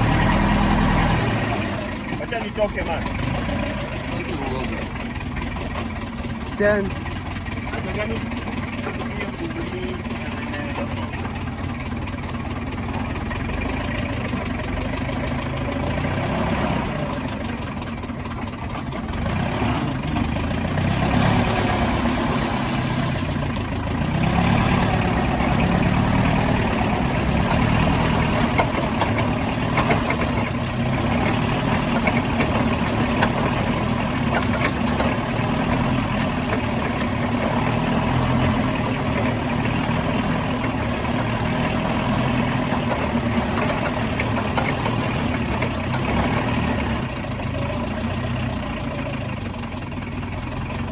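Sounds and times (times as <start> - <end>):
truck engine running: 0.0 - 50.9.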